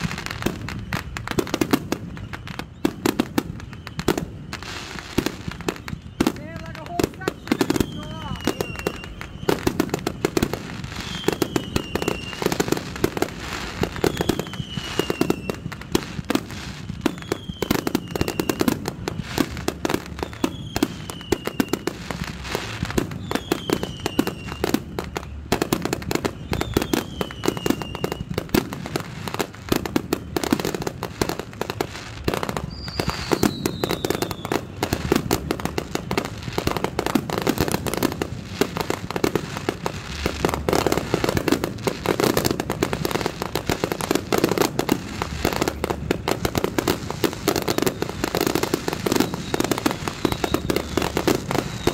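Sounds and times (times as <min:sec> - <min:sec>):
falling firework whistle: 0:00.0 - 0:51.9
fireworks bangs and pops: 0:00.0 - 0:51.9.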